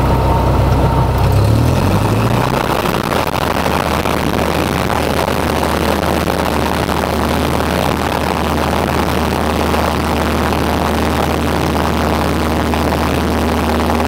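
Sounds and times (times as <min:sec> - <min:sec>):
propeller plane engine drone: 0:00.0 - 0:14.0.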